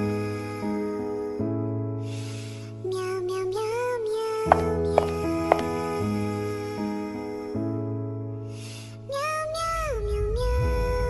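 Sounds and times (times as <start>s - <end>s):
gentle lullaby-like song: 0.0s - 11.0s.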